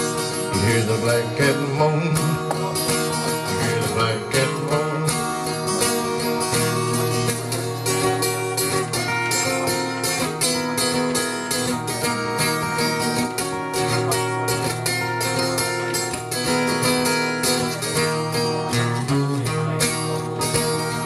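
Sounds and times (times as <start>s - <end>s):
acoustic guitars strumming: 0.0s - 21.0s.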